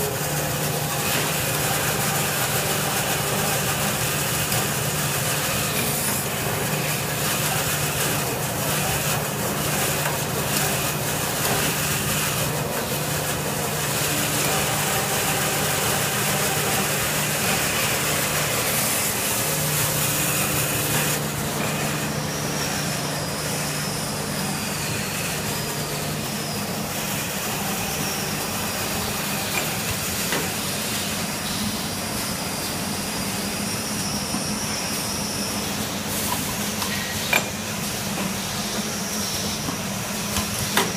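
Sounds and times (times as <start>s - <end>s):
machine humming with hiss: 0.0s - 40.9s
thin high whine: 0.0s - 40.9s.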